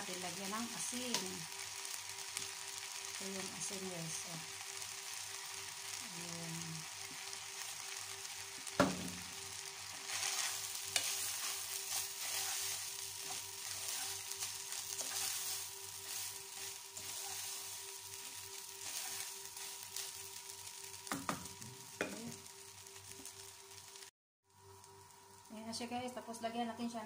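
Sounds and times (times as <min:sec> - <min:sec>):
light sizzle: 0:00.0 - 0:27.0
grains scraping in a pot: 0:00.1 - 0:24.0.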